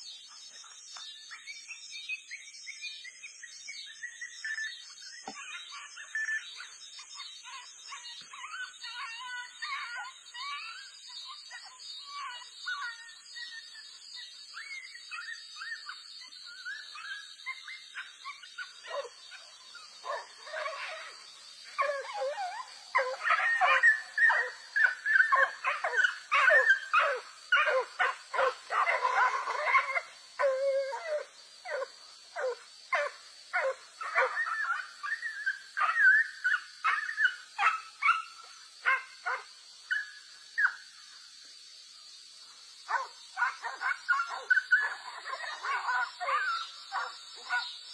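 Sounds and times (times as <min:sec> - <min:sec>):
dogs yelping and squealing: 0:05.2 - 0:40.8, 0:42.9 - 0:47.9.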